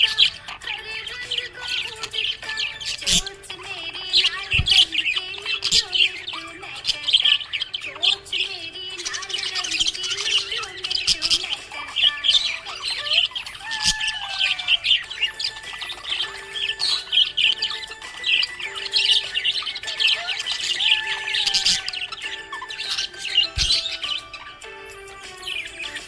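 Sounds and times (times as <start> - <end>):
bird squawks: 0.0 - 26.0
budgerigars chirping: 0.0 - 26.0.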